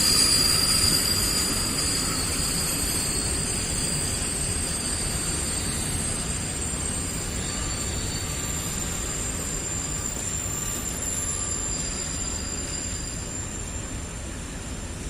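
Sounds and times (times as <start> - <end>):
high-pitched wheel squeal: 0.0 - 14.6
freight train rumbling: 0.0 - 15.0.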